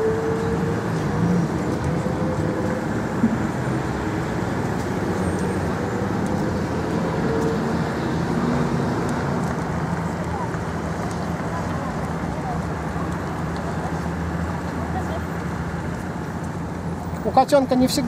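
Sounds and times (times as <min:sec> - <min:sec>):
car engines: 0:00.0 - 0:18.0
tyres on road: 0:00.0 - 0:18.0.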